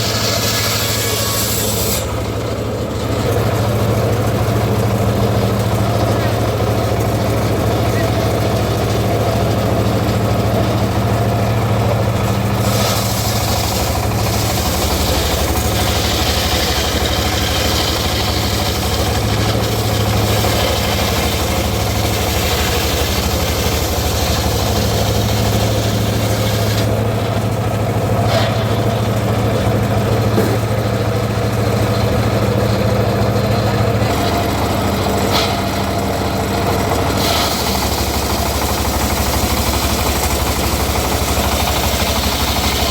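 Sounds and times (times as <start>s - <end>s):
saw engine running: 0.0s - 42.9s.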